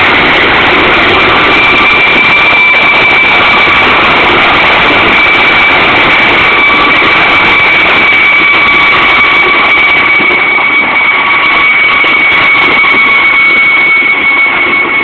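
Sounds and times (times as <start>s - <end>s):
helicopter rotor rushing: 0.0s - 15.0s
turbine high whine: 0.0s - 15.0s.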